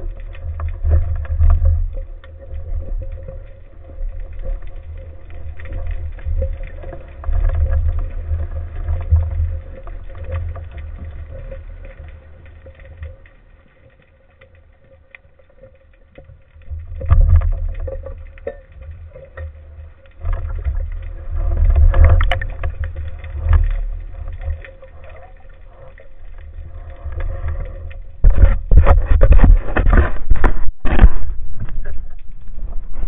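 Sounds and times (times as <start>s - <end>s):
underwater rushing water: 0.0s - 33.0s.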